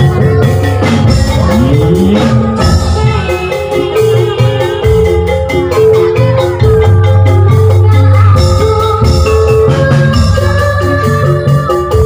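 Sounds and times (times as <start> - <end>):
bamboo percussion and drums: 0.0 - 12.0
woman singing through microphone: 0.0 - 12.0.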